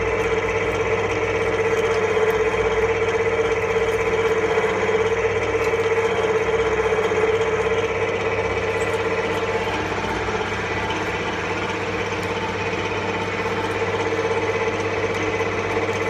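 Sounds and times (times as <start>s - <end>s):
meat grinder droning: 0.0s - 16.0s.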